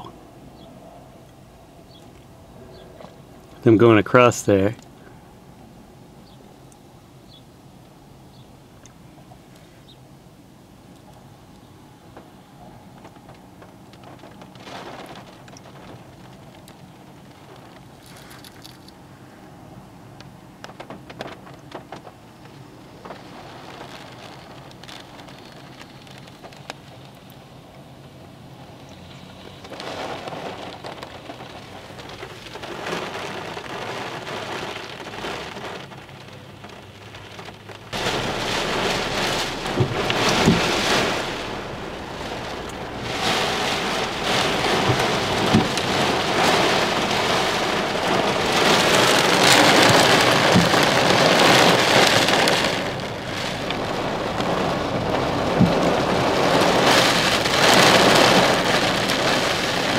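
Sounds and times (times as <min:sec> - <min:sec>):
thunderstorm rain: 0:07.3 - 0:59.9.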